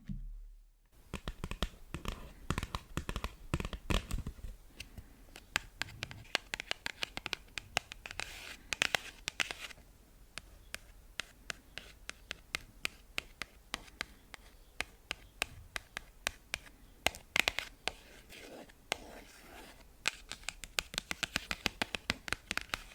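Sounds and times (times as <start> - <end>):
fingernail tapping on cards: 1.0 - 9.7, 10.4 - 18.1, 18.9 - 22.9.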